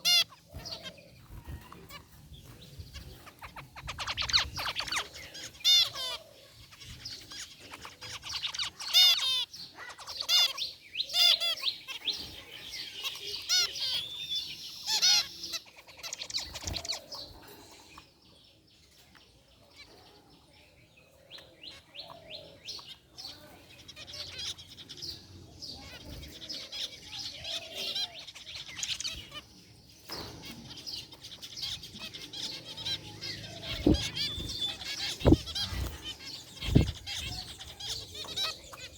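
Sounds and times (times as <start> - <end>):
zebra finches calling: 0.0 - 18.2, 21.1 - 38.9.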